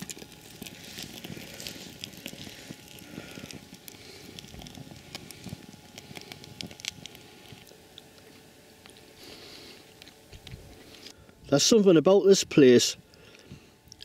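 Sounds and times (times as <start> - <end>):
open flames crackling: 0.0 - 14.0.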